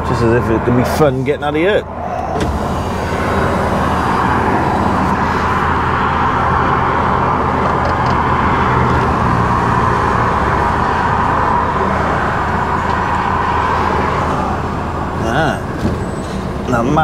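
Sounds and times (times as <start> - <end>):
cars passing: 0.0 - 17.0
lorry diesel engine running: 0.0 - 17.0.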